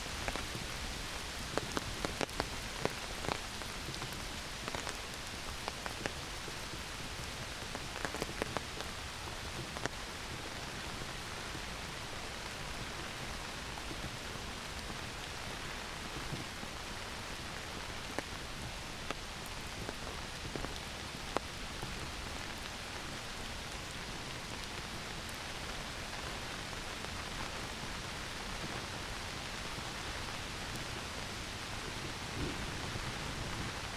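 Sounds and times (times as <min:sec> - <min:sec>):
heavy rain on foliage: 0:00.0 - 0:33.9.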